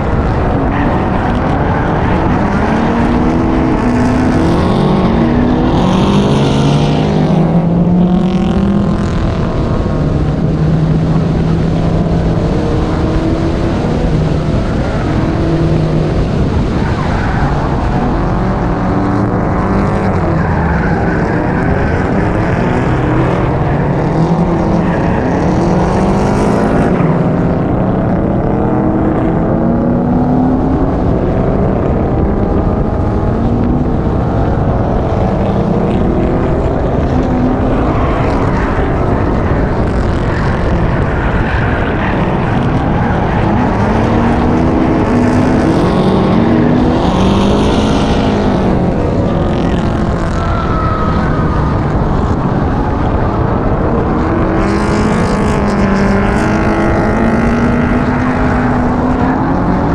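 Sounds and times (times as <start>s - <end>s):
car engines revving past: 0.0s - 59.9s.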